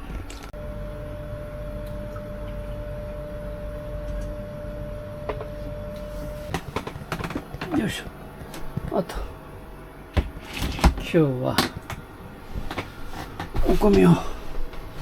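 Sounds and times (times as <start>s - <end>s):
air conditioner hum: 0.0s - 15.0s
air conditioner whine: 0.0s - 15.0s.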